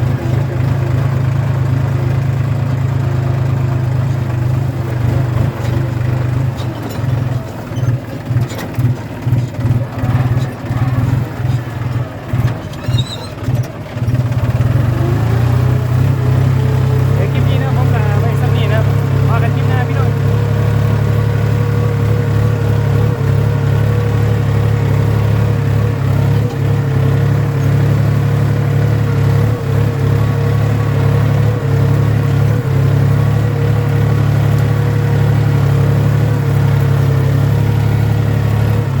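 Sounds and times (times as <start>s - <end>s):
tractor engine droning: 0.0s - 39.0s.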